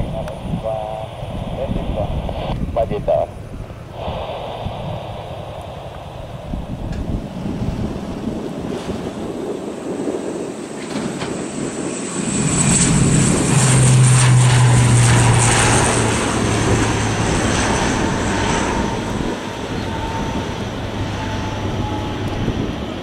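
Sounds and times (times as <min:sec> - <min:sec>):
turboprop engines at takeoff power: 0:00.0 - 0:23.0.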